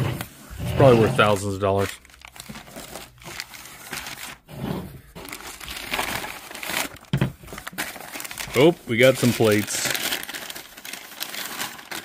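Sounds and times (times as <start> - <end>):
packing paper crinkling: 1.2 - 4.5, 5.2 - 12.0.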